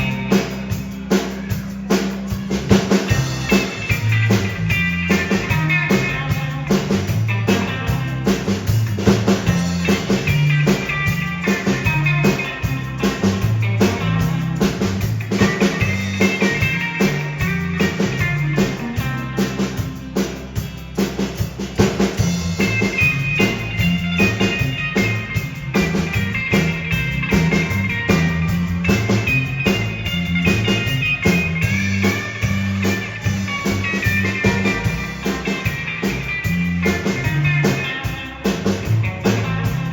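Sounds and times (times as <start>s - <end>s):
bass guitar: 0.0s - 39.9s
drum kit with rimshots: 0.0s - 39.9s
electric guitar: 0.0s - 39.9s.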